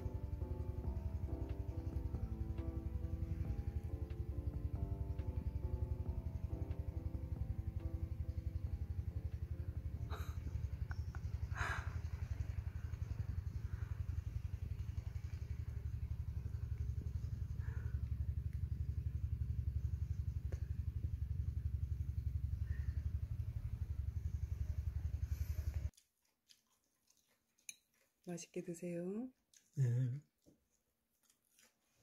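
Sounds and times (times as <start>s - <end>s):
small engine chugging: 0.0s - 25.9s.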